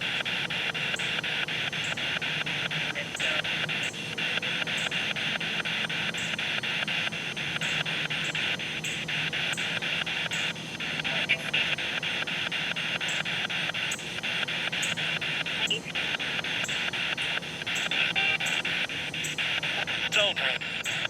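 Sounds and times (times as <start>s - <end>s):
radio clicks: 0.0s - 21.0s
radio static hiss: 0.0s - 21.0s.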